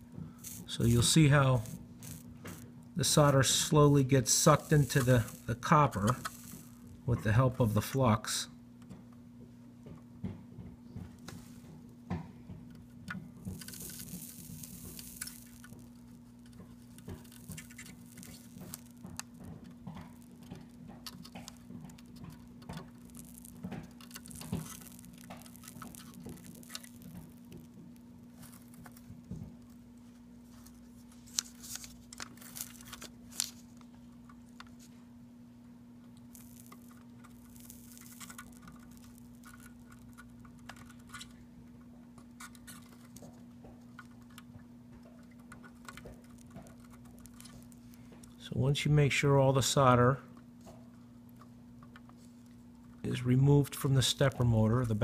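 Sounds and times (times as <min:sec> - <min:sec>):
flux crackling under soldering iron: 0:00.0 - 0:55.0
steady low hum: 0:00.0 - 0:55.0.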